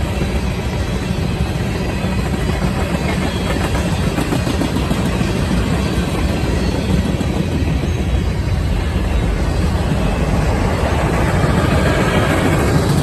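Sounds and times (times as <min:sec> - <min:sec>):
freight train cars rolling past: 0:00.0 - 0:13.0.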